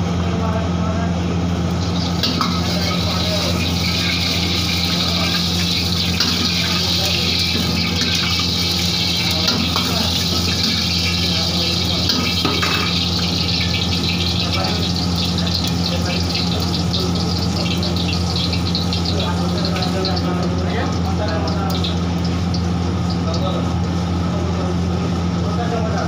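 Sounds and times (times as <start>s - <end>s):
gas burner flame rumble: 0.0s - 26.0s
hot oil sizzling: 1.4s - 26.0s.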